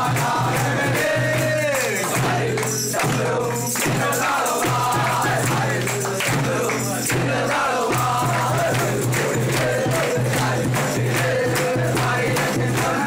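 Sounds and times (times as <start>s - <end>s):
group singing a carol: 0.0s - 13.0s
steady percussion beat: 0.0s - 13.0s.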